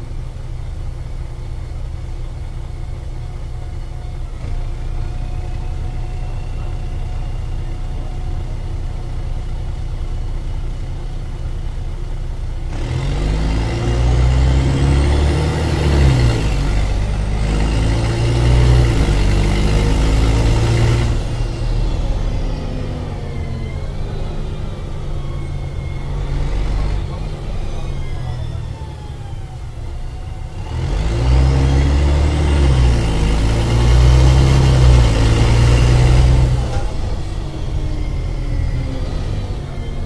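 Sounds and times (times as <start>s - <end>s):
bus diesel engine idling and revving: 0.0s - 40.0s.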